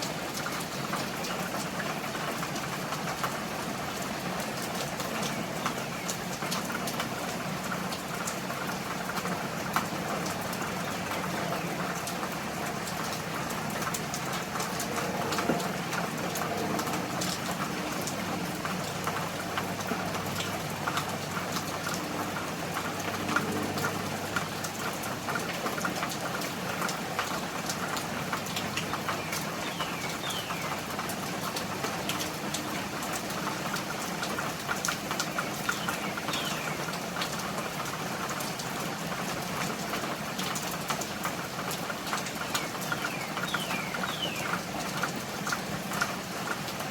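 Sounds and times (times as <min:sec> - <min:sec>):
raindrops ticking: 0:00.0 - 0:46.9
steady rain falling: 0:00.0 - 0:46.9.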